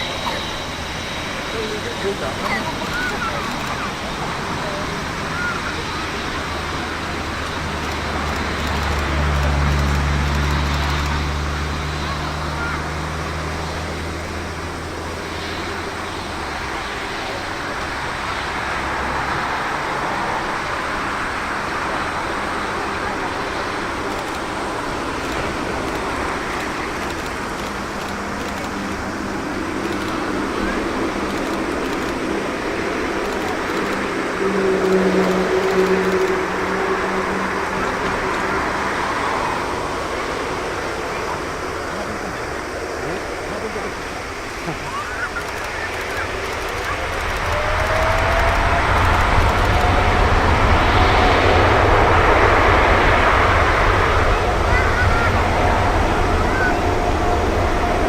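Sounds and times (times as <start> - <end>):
jet engine rush and drone: 0.0 - 58.0
low hum: 0.0 - 58.0.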